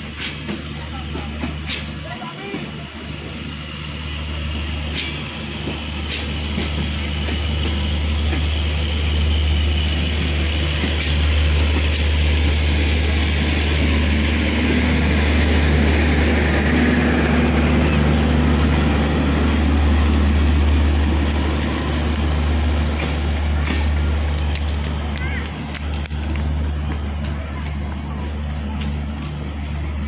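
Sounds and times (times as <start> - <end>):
diesel generator car passing: 0.0 - 30.0
train coaches rumbling and rattling: 0.0 - 30.0.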